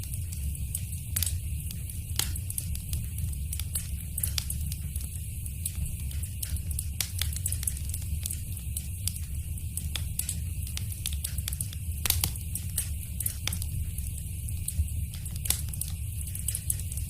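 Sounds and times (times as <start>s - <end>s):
sharp pops and snaps: 0.0s - 17.0s
wood fire crackling: 0.0s - 17.0s.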